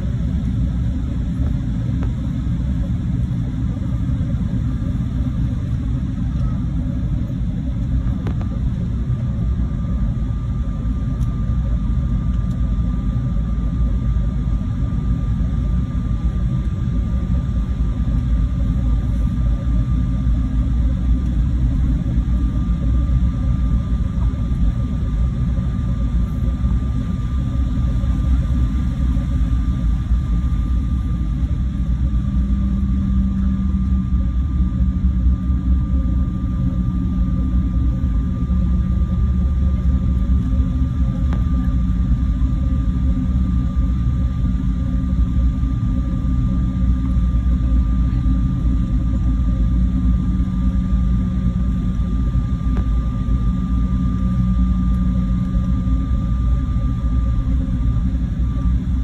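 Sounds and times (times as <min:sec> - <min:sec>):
faint thin whine: 0:00.0 - 0:59.0
jet airliner cabin rumble taxiing: 0:00.0 - 0:59.0.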